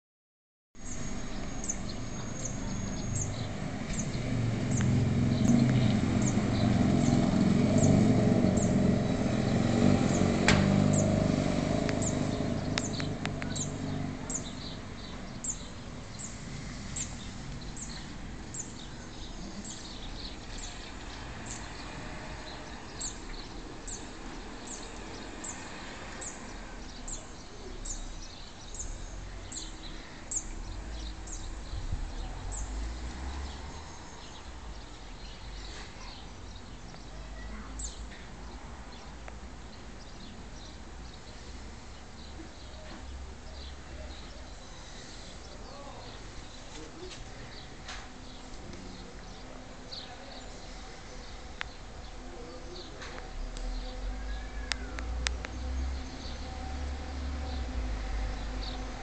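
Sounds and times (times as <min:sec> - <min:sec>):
vehicle engine rumble passing: 0:01.0 - 0:28.2, 0:28.8 - 0:59.0.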